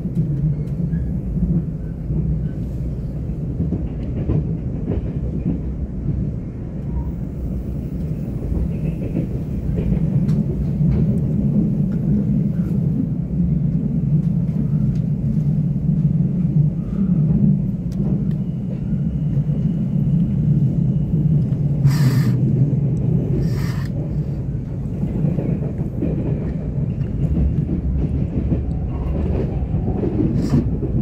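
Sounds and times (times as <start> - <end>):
train rumbling inside carriage: 0.0 - 31.0.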